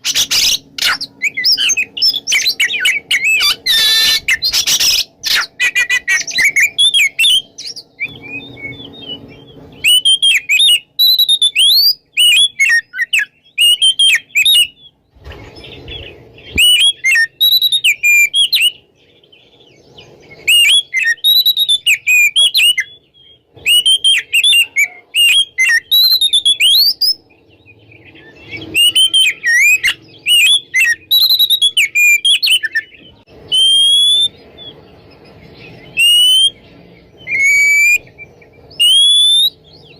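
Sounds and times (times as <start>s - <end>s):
songbird singing whistled phrases: 0.0s - 15.0s, 15.6s - 39.9s.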